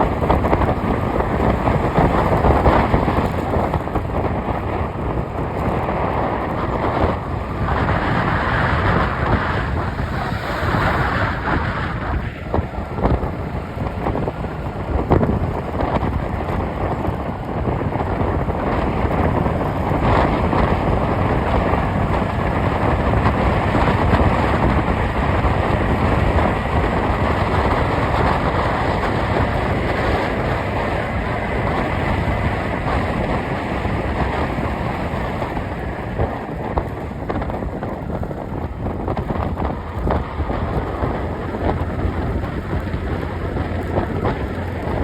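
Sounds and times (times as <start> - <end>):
vehicle road and wind noise: 0.0 - 45.0.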